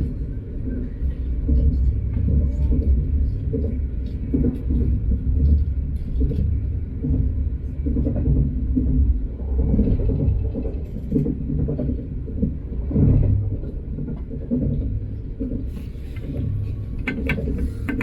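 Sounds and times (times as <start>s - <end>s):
train rumbling at speed: 0.0s - 18.0s.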